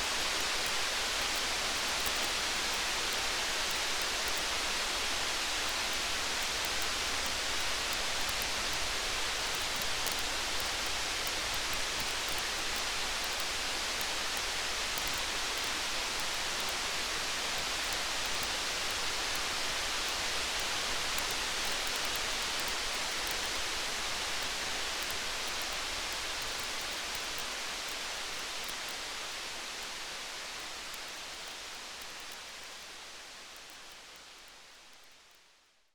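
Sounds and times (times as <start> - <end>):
faint campfire crackles: 0.0 - 35.8.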